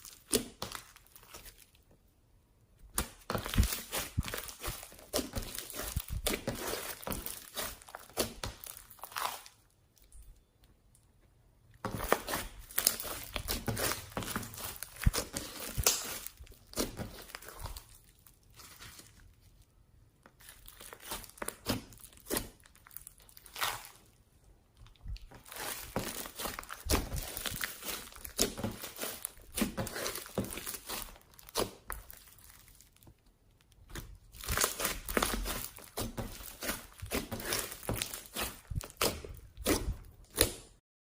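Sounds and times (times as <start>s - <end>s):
slime crackling and popping: 0.0s - 1.8s, 2.9s - 10.5s, 11.8s - 19.2s, 20.3s - 40.8s.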